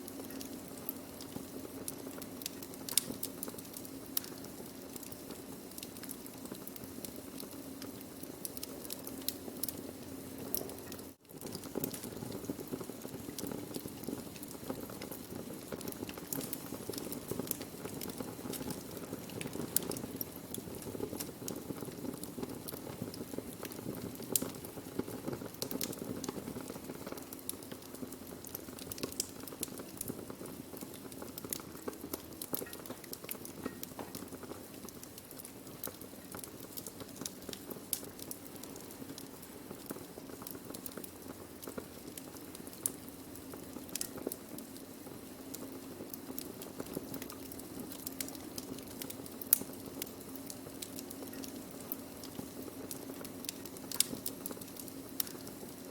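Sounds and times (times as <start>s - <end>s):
low hiss of flames: 0.0s - 55.9s
wood fire crackling and popping: 0.0s - 55.9s.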